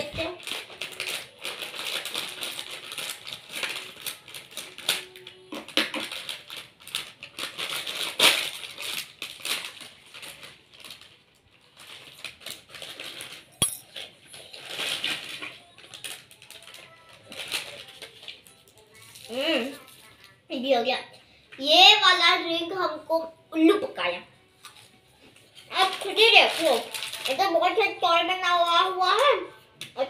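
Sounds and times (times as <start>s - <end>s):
plastic snack packet crinkling: 0.0s - 20.4s, 24.6s - 29.3s.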